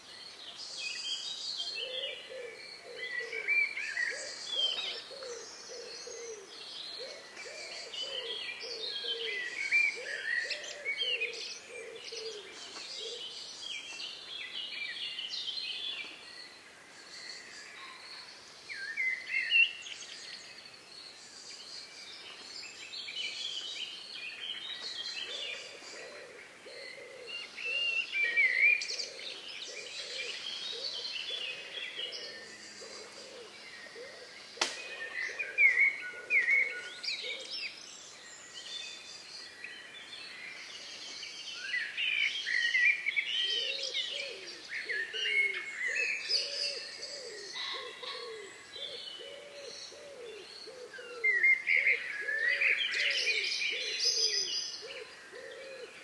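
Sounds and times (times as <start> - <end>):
songbirds warbling: 0.0 - 56.0.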